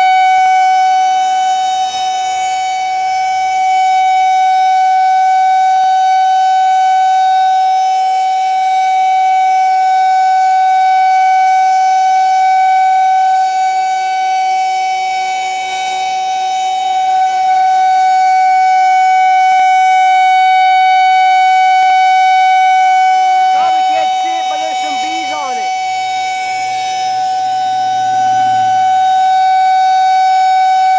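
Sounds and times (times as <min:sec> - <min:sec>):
warning siren steady tone: 0:00.0 - 0:30.9.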